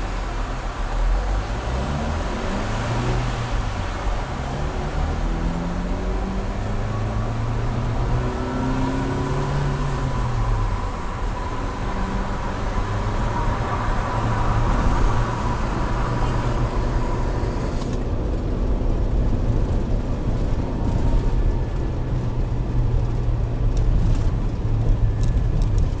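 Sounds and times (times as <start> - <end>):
low engine hum: 0.0 - 26.0
tyre and wind noise: 0.0 - 26.0.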